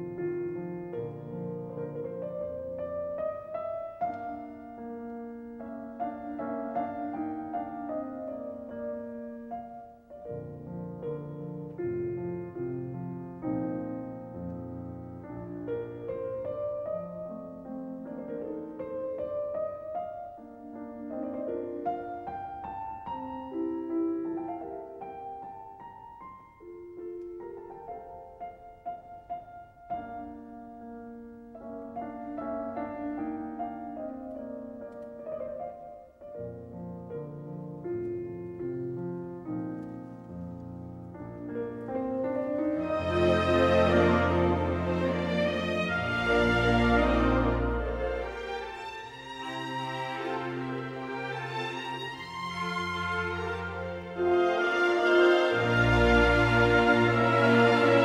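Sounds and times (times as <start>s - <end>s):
slow piano piece: 0.0s - 58.0s.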